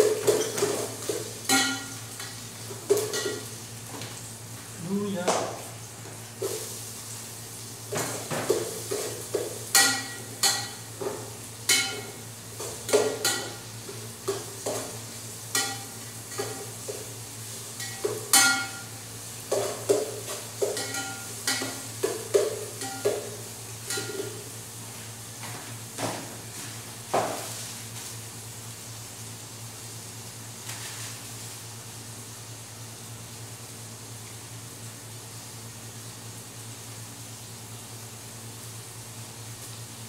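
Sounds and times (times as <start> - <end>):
faint sizzle of frying: 0.0 - 40.0.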